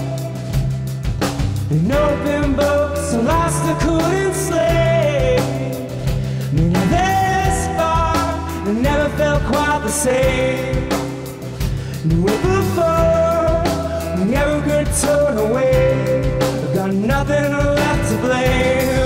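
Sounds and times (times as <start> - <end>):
man singing: 0.0 - 0.7, 1.7 - 19.0
drum kit beat: 0.0 - 19.0
electric bass: 0.0 - 19.0.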